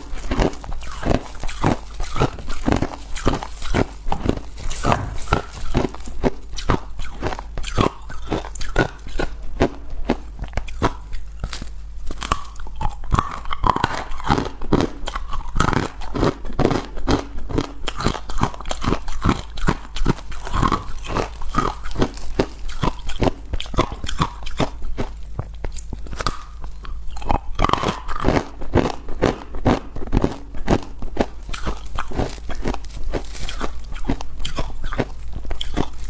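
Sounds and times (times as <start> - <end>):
ice crunching between teeth: 0.0 - 36.0.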